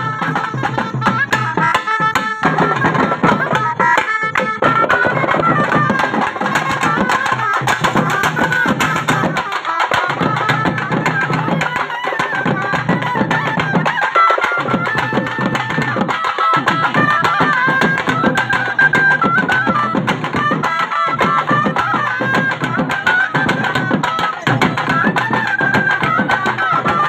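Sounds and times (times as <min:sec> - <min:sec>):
barrel drums beating fast: 0:00.0 - 0:27.0
high wavering melody: 0:00.0 - 0:27.0.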